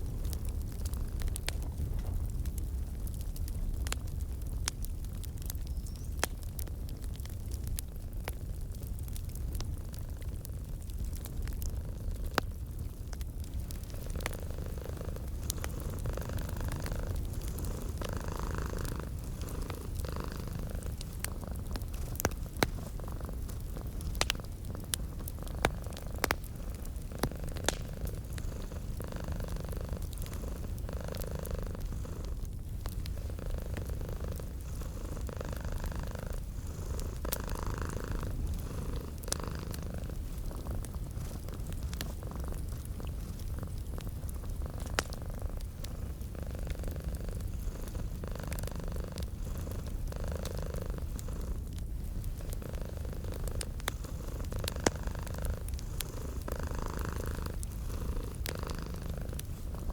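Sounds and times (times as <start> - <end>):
fireplace fire crackling: 0.0 - 59.9
cat purring: 8.2 - 59.9.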